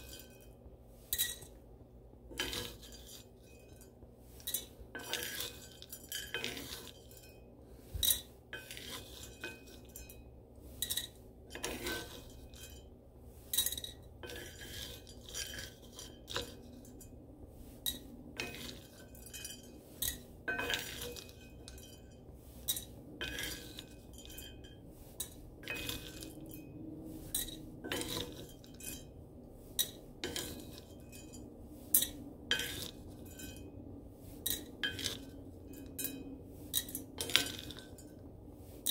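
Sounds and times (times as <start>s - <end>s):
spatula scraping iron skillet: 0.0s - 38.9s.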